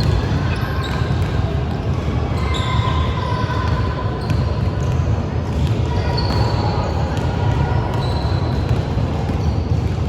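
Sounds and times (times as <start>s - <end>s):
basketball bouncing on court: 0.0s - 2.0s, 3.7s - 10.0s.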